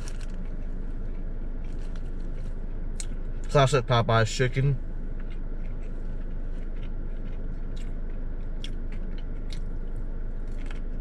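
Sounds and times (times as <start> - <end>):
person chewing crunchy food: 0.0 - 3.5, 5.0 - 11.0
low hum: 0.0 - 11.0.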